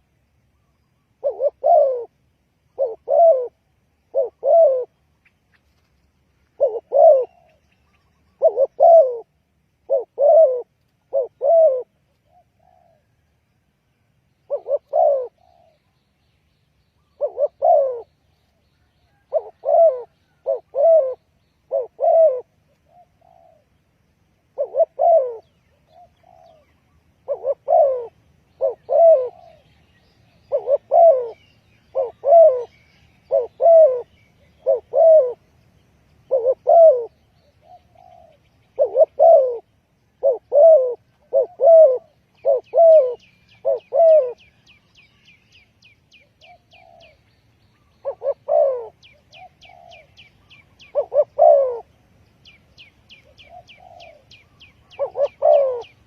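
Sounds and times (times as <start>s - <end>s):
dove cooing: 0.6s - 5.1s, 6.4s - 13.3s, 14.4s - 15.9s, 17.0s - 23.8s, 24.4s - 35.5s, 36.2s - 45.1s, 46.1s - 56.0s.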